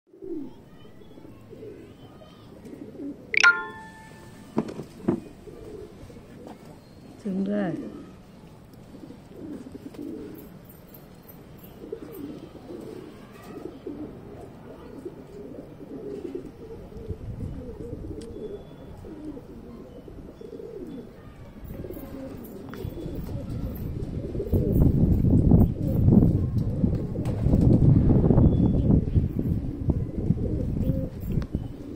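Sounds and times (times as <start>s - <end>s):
pigeons cooing: 0.1s - 3.3s, 4.9s - 7.1s, 8.8s - 10.6s, 11.6s - 27.6s, 29.4s - 31.9s.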